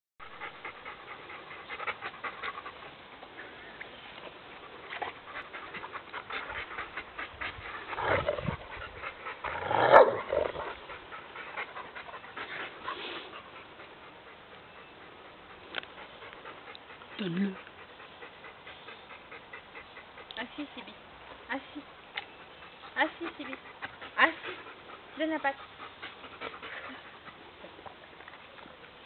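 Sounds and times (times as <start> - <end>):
dogs panting: 0.2 - 29.0.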